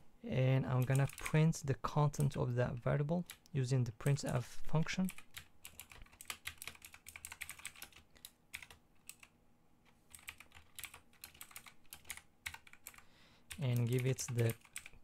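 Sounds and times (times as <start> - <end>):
faint keyboard typing: 0.7 - 15.0.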